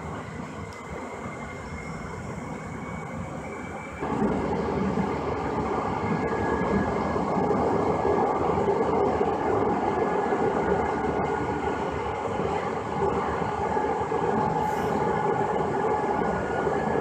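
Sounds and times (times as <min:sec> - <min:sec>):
light rail car running: 0:00.0 - 0:17.0.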